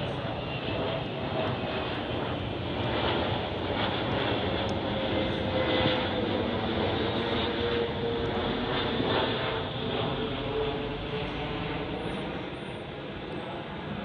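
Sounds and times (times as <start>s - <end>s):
airplane flying past: 0.0s - 14.0s.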